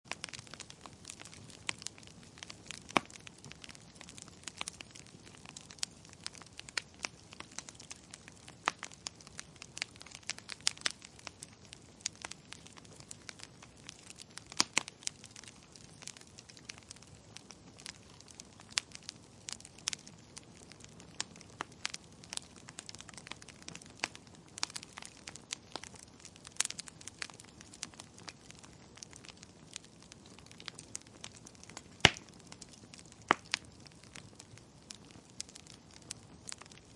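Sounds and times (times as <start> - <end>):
wood fire crackling: 0.1 - 36.9.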